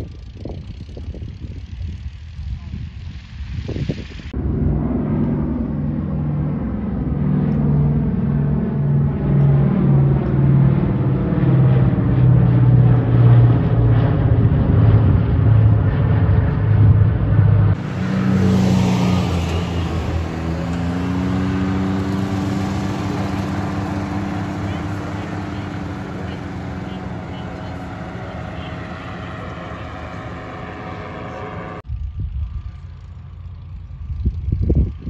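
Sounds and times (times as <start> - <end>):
propeller aircraft droning overhead: 0.0 - 35.0
small engines humming: 0.0 - 35.0.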